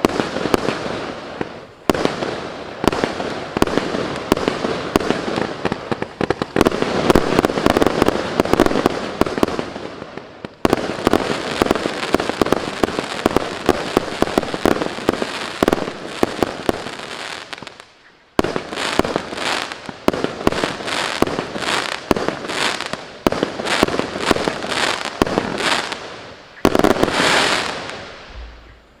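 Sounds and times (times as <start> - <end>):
sharp firework shots: 0.0 - 17.7, 18.4 - 28.8
firework crackling volleys: 0.0 - 29.0.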